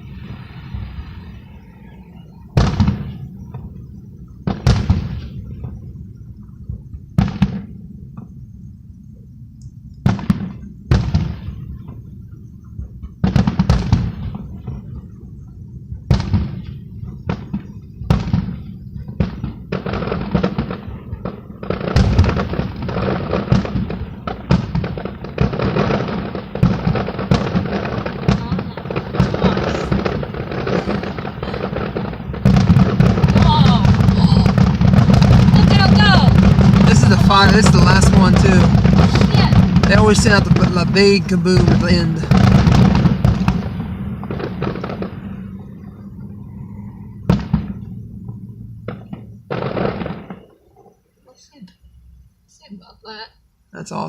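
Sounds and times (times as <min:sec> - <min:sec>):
distant firework booms: 0:00.0 - 0:51.2
firework bangs and crackle: 0:00.0 - 0:52.2.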